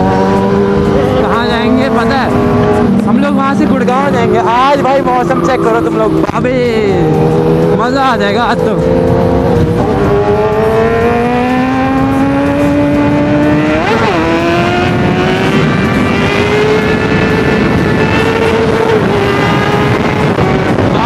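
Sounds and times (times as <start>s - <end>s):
motorcycle engine rising in pitch: 0.0s - 21.0s.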